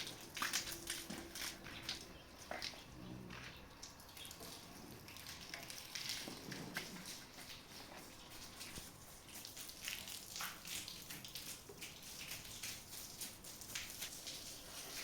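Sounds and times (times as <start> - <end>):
faint patter of water drops: 0.0 - 15.0.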